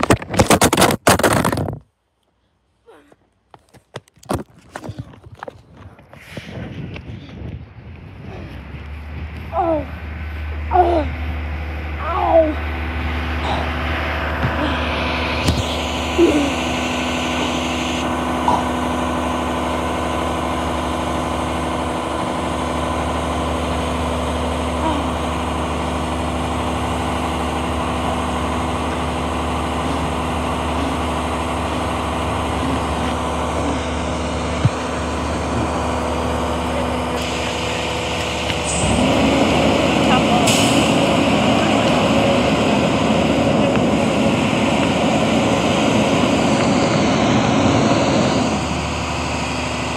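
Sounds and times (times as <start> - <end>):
truck engine idling: 7.8 - 49.9.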